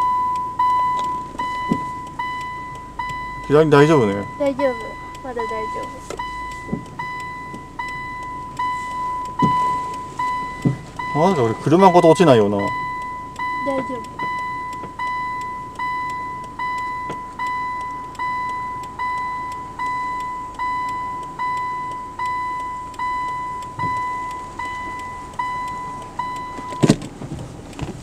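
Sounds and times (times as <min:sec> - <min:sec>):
car reverse warning chime: 0:00.0 - 0:27.8.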